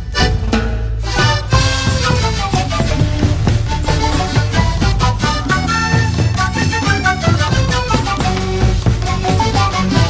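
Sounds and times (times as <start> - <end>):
instrumental song with steady beat: 0.0 - 10.0.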